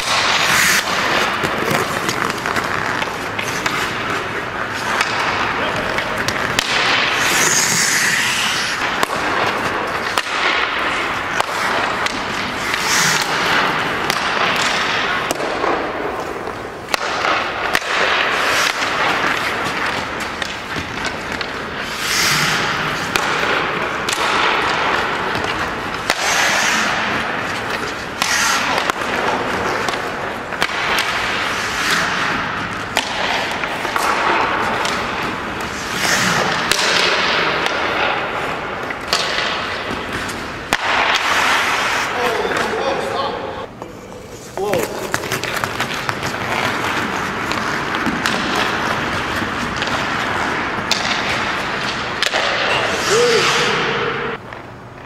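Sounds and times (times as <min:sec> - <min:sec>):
skate blades scraping ice: 0:00.0 - 0:54.4
hockey stick hitting puck: 0:00.0 - 0:55.0.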